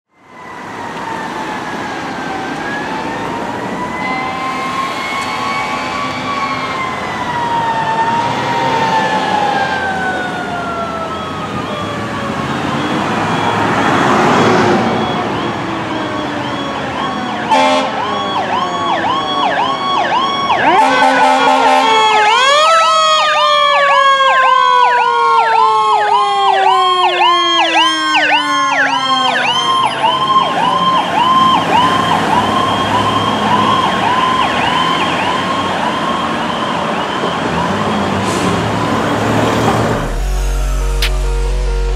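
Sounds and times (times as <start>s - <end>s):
fire engine siren: 0.1s - 41.9s
lower siren tone sliding: 0.1s - 41.9s.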